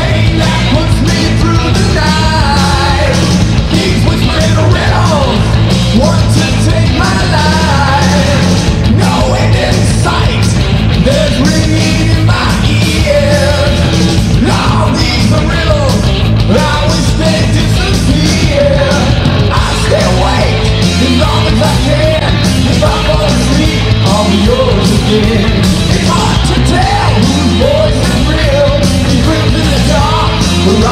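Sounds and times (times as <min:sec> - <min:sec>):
bending lead guitar line: 0:00.0 - 0:30.9
metal band playing: 0:00.0 - 0:30.9.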